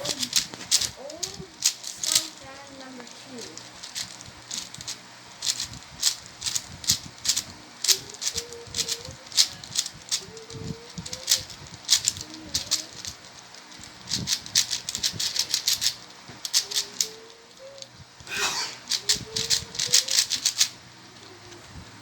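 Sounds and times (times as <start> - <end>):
puzzle cube clicking and rattling: 0.0 - 21.6.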